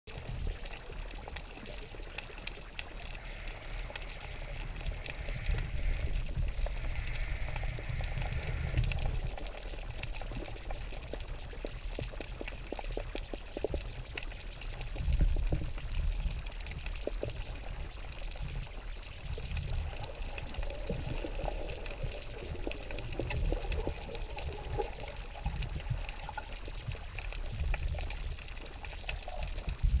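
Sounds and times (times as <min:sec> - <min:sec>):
faint scattered clicks: 0:00.1 - 0:30.0
underwater rumble of moving water: 0:00.1 - 0:30.0.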